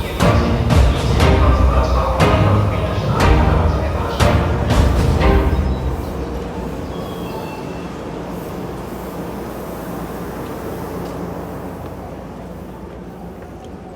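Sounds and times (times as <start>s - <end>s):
train rail and wheel noise: 0.0s - 13.9s.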